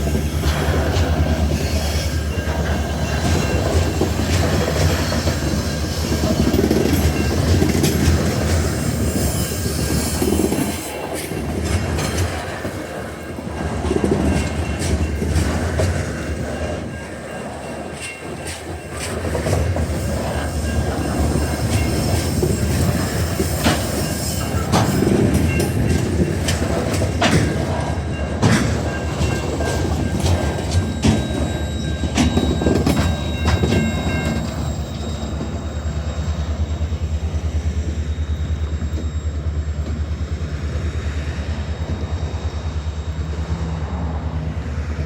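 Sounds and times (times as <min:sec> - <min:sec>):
train wagons rumbling on rails: 0:00.0 - 0:45.0.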